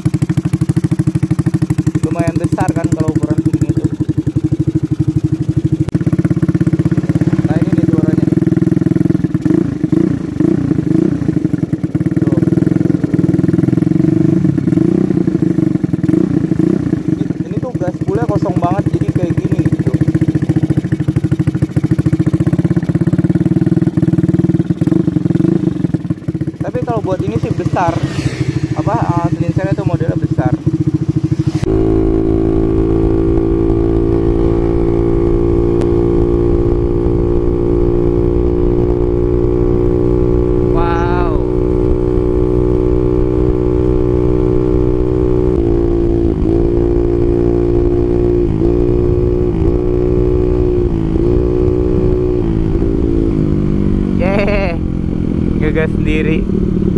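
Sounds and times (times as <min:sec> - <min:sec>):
scooter engine running: 0:00.0 - 0:56.9.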